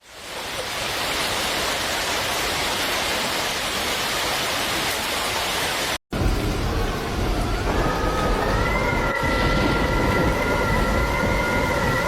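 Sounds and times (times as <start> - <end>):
storm wind and rain: 0.0 - 12.0.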